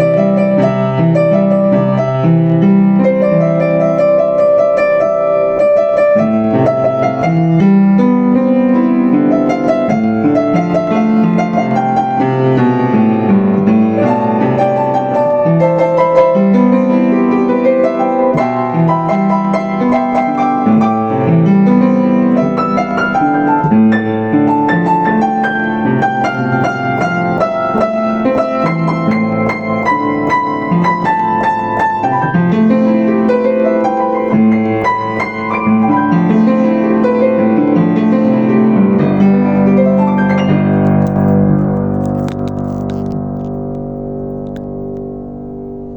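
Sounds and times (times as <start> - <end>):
upright piano solo: 0.0 - 45.9.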